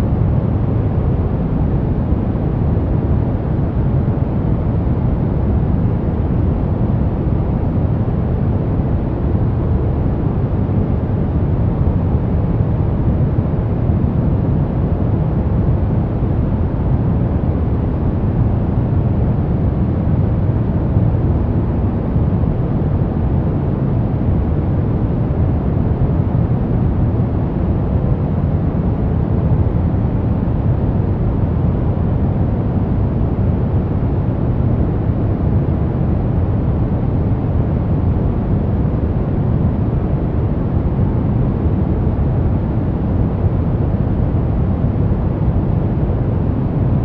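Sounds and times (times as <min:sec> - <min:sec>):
deep low white noise: 0:00.0 - 0:47.0.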